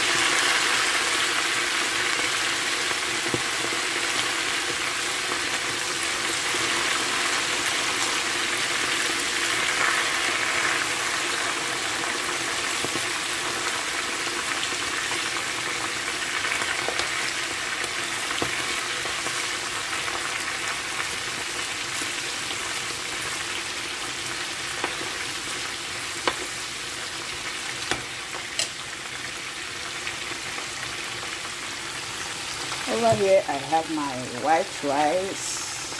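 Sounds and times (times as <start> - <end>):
meat sizzling in hot oil: 0.0 - 35.9.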